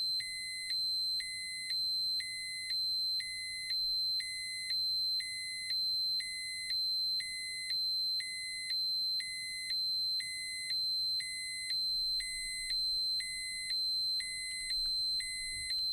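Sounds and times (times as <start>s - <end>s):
dosimeter alarm beeping: 0.2s - 15.9s.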